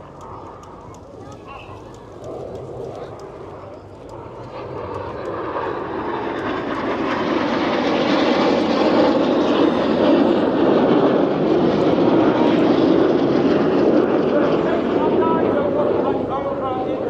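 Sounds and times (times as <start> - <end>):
jet engines passing over: 0.0 - 17.0.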